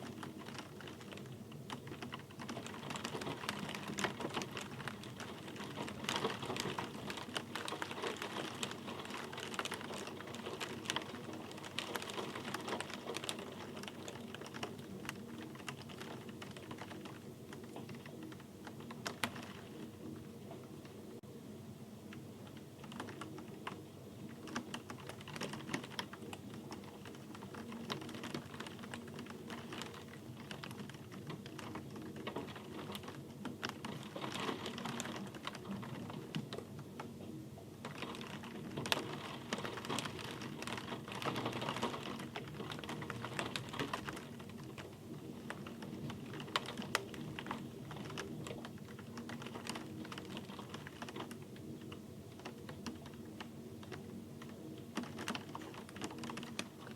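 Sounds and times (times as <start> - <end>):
close raindrops tapping: 0.0 - 21.1, 22.1 - 56.9
rain pattering: 0.0 - 21.2, 21.9 - 56.9.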